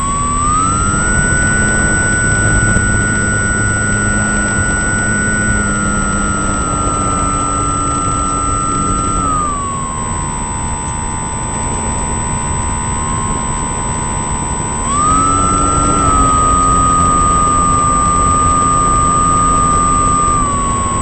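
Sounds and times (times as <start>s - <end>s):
engine whining under load: 0.0s - 21.0s.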